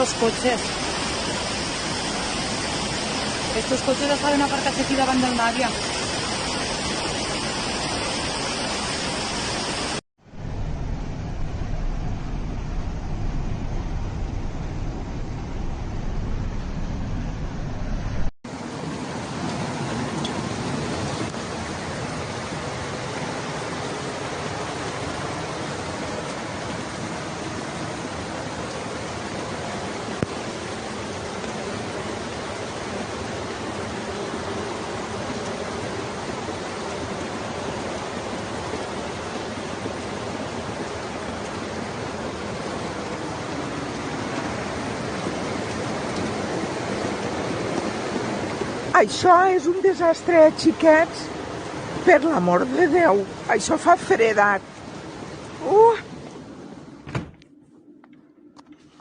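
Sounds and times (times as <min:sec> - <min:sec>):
floodwater rushing: 0:00.0 - 0:57.1.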